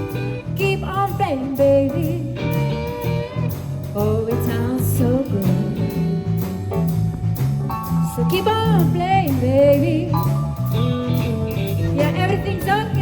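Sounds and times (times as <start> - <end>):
blues band playing: 0.0 - 13.0
drums: 0.0 - 13.0
guitar melody: 0.0 - 13.0
piano: 0.0 - 13.0
steady bass line: 0.0 - 13.0.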